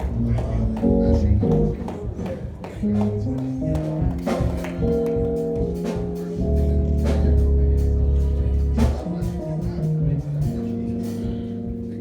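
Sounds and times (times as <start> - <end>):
church band music: 0.0 - 12.0
drum hits: 0.0 - 12.0.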